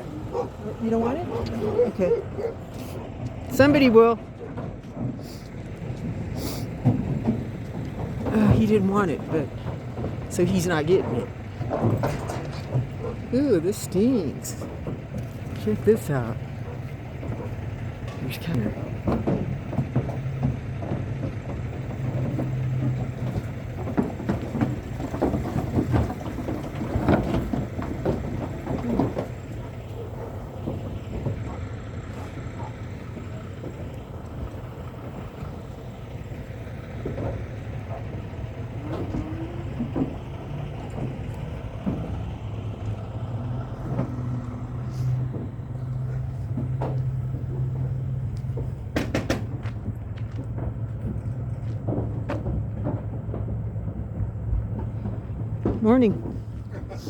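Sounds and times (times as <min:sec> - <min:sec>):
knocks and clatter: 0:00.0 - 0:57.0
truck idling: 0:00.0 - 0:57.0.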